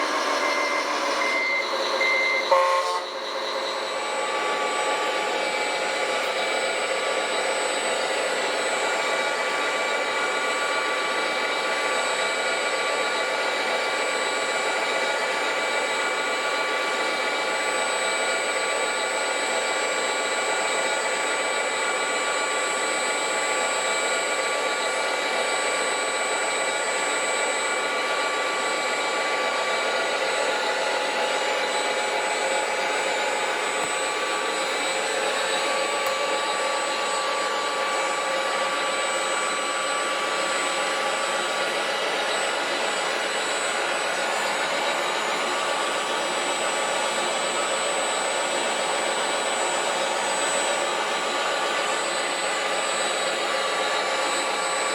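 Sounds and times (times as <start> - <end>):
small electric motors whining: 0.0 - 54.9.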